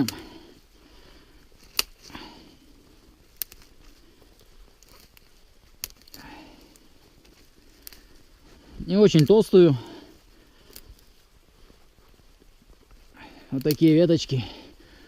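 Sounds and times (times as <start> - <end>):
dry twigs snapping: 0.0 - 0.5, 1.2 - 2.4, 3.0 - 11.7, 12.7 - 15.0
branches rustling: 0.0 - 15.0.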